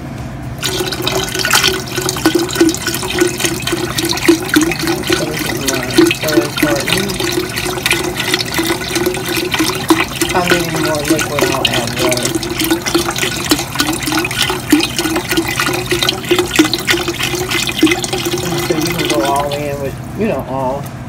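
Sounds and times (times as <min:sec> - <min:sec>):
broth pouring into soup pot: 0:00.6 - 0:20.0.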